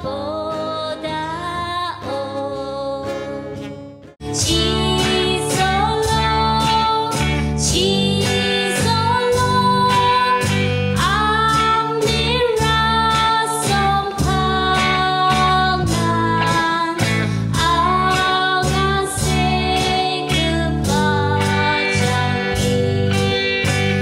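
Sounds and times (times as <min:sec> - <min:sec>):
electric guitar: 0:00.0 - 0:24.0
woman singing: 0:00.0 - 0:24.0
drum kit beat: 0:04.3 - 0:24.0.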